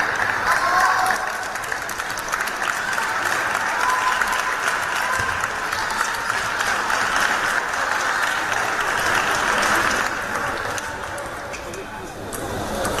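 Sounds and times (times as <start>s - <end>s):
spectators applauding: 0.0s - 13.0s.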